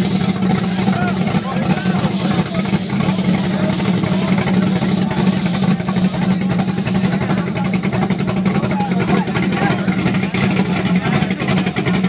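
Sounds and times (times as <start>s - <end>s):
race car engine idling: 0.0s - 12.0s.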